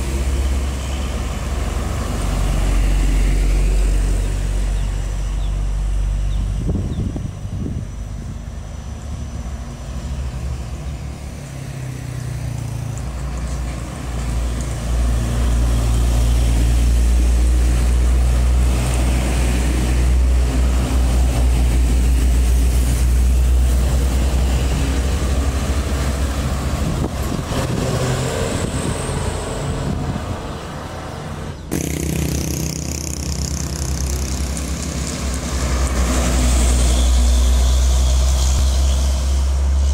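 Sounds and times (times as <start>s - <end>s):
diesel trucks passing: 0.0s - 39.9s.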